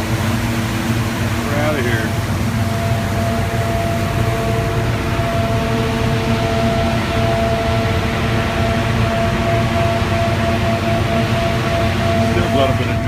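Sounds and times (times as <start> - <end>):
steady whine: 0.0 - 13.0
vehicle engine and road rumble: 0.0 - 13.0.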